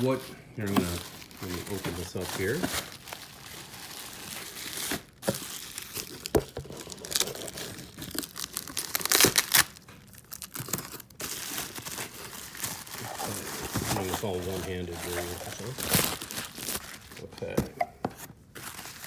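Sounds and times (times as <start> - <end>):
plastic packaging tearing and crinkling: 0.0 - 17.6, 18.2 - 19.0.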